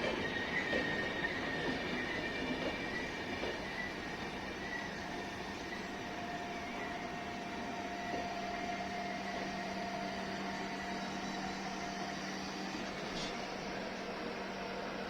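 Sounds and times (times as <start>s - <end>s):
train hum and hiss: 0.0s - 15.0s.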